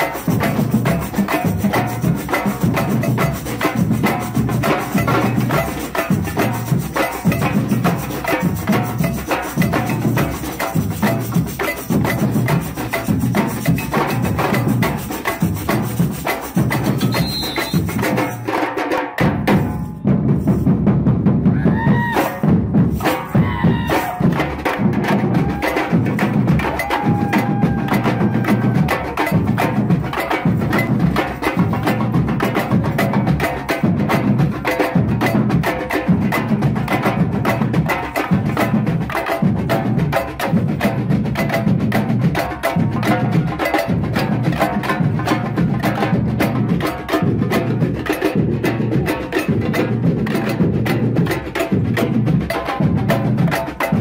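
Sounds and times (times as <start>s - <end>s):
street percussion band: 0.0s - 54.0s.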